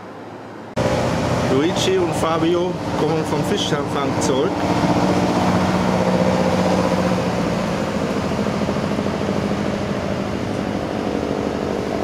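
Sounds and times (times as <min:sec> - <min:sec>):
rushing noise: 0:00.0 - 0:12.0
motor drone: 0:00.8 - 0:12.0.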